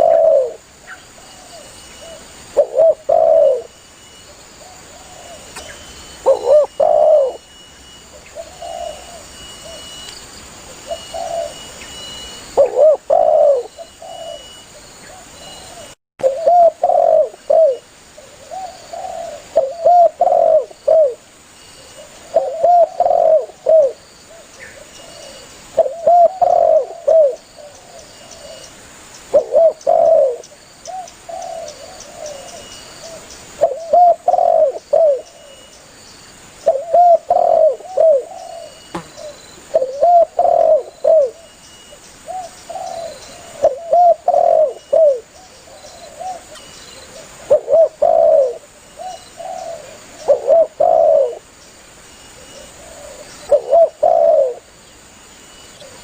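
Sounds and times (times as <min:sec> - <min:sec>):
dove cooing: 0:00.0 - 0:00.6, 0:01.2 - 0:03.7, 0:04.6 - 0:07.5, 0:08.1 - 0:09.9, 0:10.7 - 0:11.7, 0:12.5 - 0:21.2, 0:21.8 - 0:28.7, 0:29.3 - 0:35.6, 0:36.7 - 0:41.5, 0:42.3 - 0:51.4, 0:52.4 - 0:54.7.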